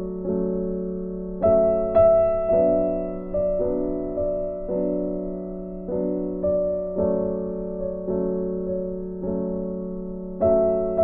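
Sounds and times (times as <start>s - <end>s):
soft piano chords: 0.0s - 11.0s.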